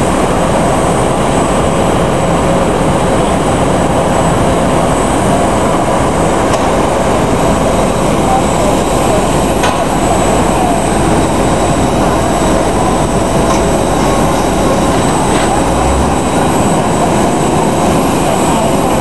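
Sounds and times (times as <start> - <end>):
high-pitched jet whine: 0.0 - 19.0
jet engine roar: 0.0 - 19.0.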